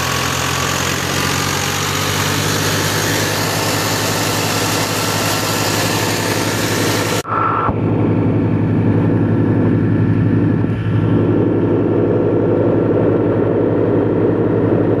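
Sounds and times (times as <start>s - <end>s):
threshing machine: 0.0s - 12.4s
tractor diesel engine running: 0.0s - 15.0s.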